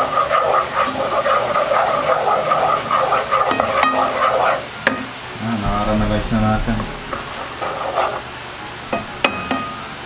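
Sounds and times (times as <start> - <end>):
wooden spatula stirring: 0.0 - 8.3
sauce bubbling and sizzling in a pot: 0.0 - 10.0.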